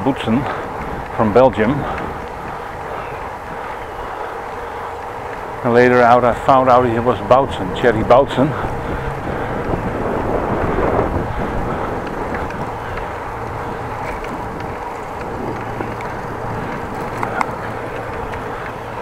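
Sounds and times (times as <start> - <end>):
bicycle rolling on paved road: 0.0 - 19.0
wind on microphone: 0.0 - 19.0.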